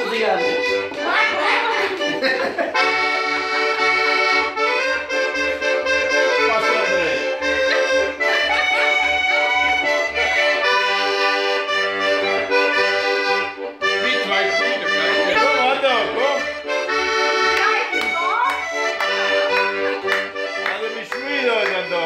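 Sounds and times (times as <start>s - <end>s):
button accordion playing folk dance: 0.0s - 22.0s.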